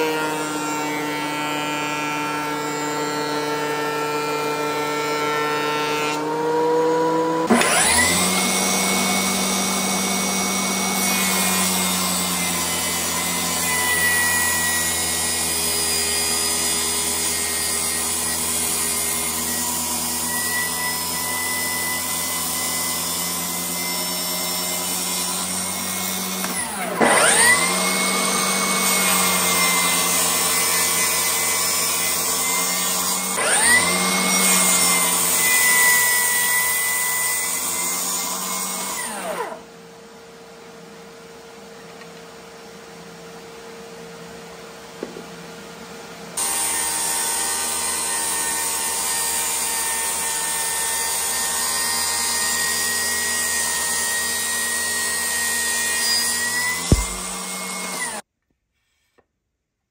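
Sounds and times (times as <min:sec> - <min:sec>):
table saw motor whining: 0:00.0 - 0:39.9, 0:46.3 - 0:58.3.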